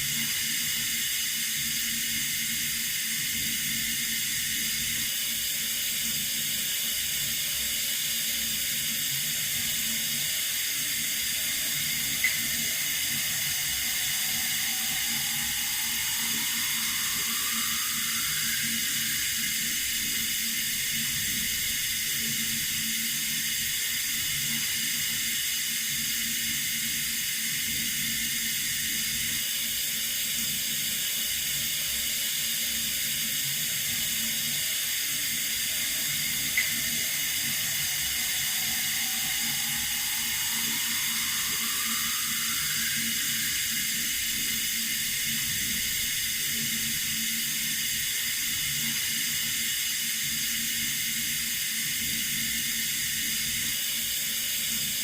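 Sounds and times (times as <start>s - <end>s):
water running from a tap: 0.0s - 29.4s, 32.3s - 53.7s.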